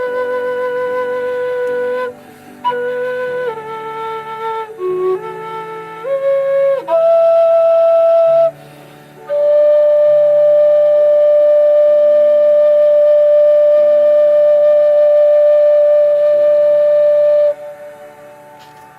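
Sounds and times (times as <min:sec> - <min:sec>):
soft backing accompaniment: 0:00.0 - 0:18.9
whistle playing slow melody: 0:00.0 - 0:18.9.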